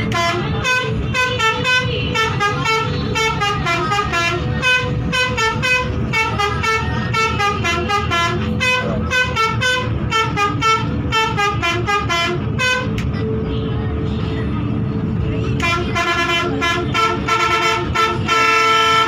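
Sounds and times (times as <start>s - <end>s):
musical bus horn melody: 0.0s - 13.1s, 15.5s - 19.0s.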